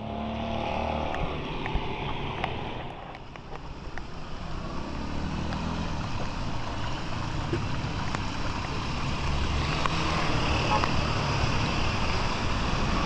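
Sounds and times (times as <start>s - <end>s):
vehicle engine running: 1.0s - 13.0s.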